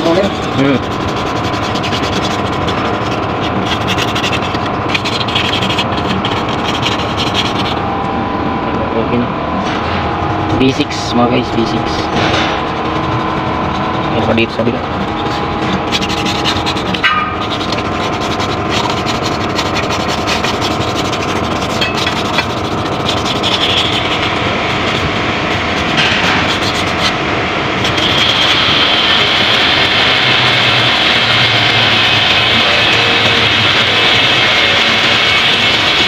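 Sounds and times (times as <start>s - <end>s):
bristle brush scrubbing engine: 0.0s - 8.2s, 10.2s - 36.0s.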